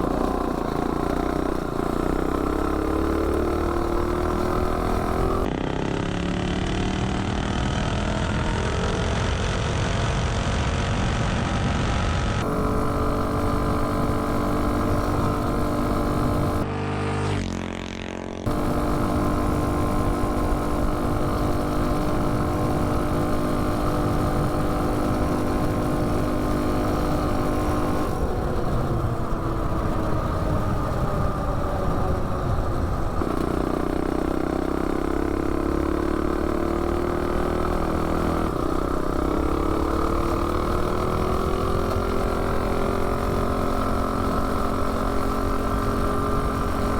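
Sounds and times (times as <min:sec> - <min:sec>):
minibike engine revving high: 0:00.0 - 0:09.5, 0:12.4 - 0:46.9.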